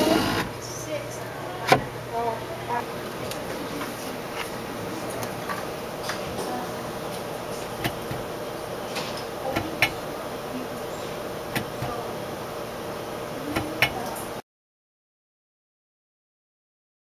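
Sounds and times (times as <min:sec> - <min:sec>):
machine humming: 0:00.0 - 0:14.4.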